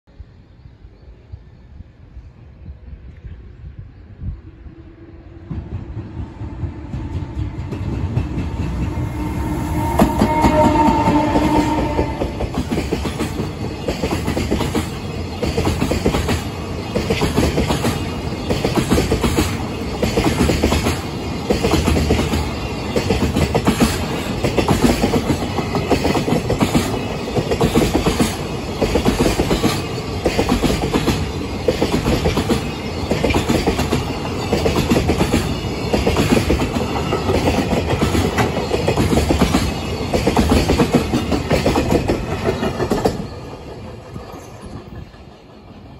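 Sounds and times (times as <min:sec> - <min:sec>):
freight train passing: 0:00.1 - 0:45.9.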